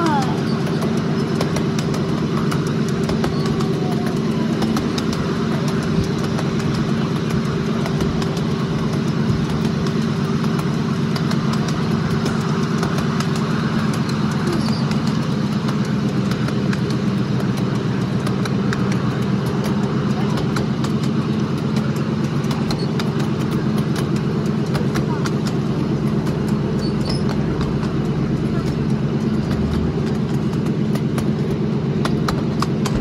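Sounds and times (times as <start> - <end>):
small locomotive engine droning: 0.0 - 33.0
wheels clicking on rails: 0.0 - 33.0.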